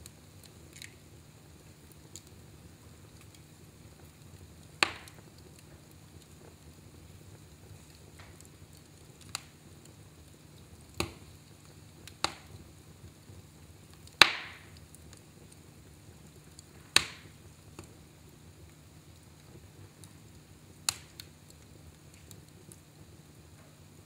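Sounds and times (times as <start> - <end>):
faint steady background noise: 0.0 - 24.0
fire crackling pops: 0.0 - 24.0.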